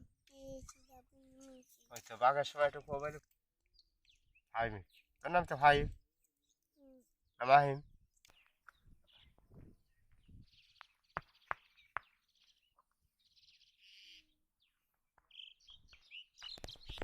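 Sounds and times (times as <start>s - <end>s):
faint birds chirping: 0.2s - 17.0s.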